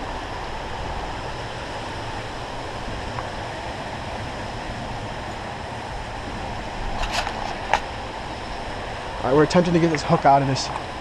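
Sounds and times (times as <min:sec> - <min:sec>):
wind and water rushing: 0:00.0 - 0:11.0.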